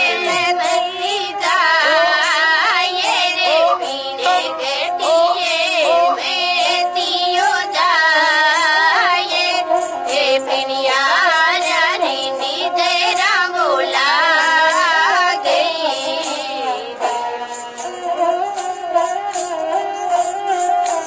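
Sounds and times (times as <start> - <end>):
ornamented folk melody: 0.0 - 21.0.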